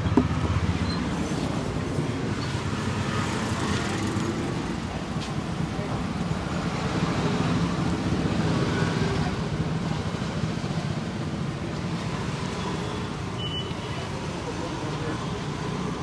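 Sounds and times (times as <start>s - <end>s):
passing vehicles rumble: 0.0s - 16.0s.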